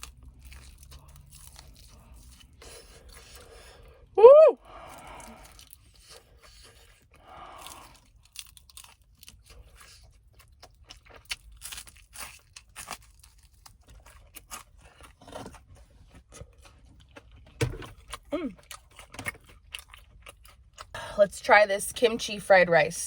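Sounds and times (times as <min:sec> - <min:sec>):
fried chicken crunching: 0:00.0 - 0:04.1, 0:04.7 - 0:21.9.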